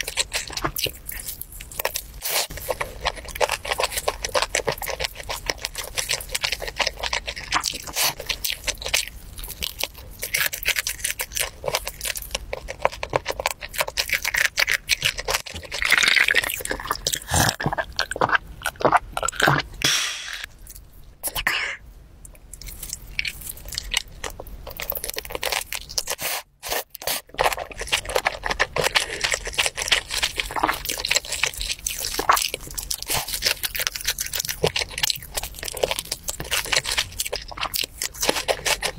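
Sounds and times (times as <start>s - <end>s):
chewing with wet mouth smacks: 0.0s - 19.8s, 22.3s - 38.9s.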